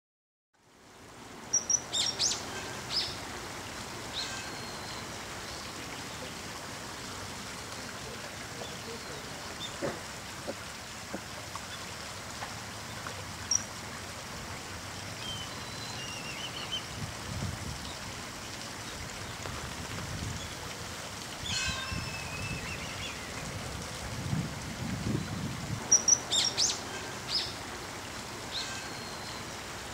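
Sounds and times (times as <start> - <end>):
stream water flowing: 0.6 - 29.9.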